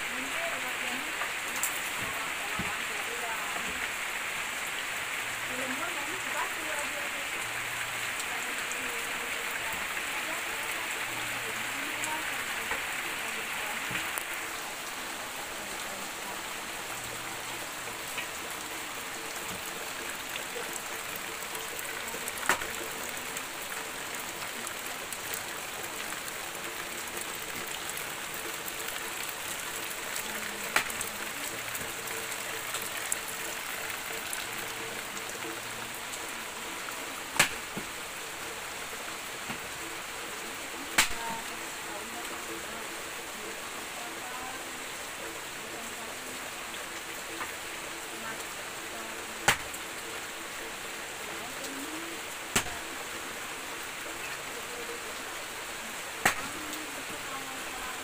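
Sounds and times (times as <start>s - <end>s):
rain falling on foliage: 0.0s - 58.0s.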